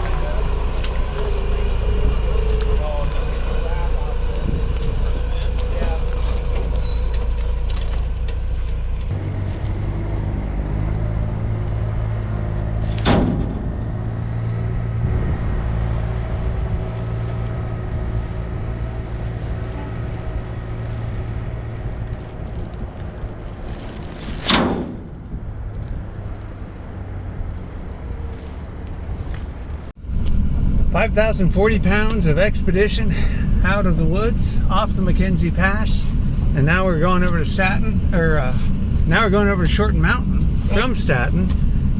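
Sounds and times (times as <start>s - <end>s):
vehicle engine running: 0.0s - 23.9s, 29.9s - 41.9s.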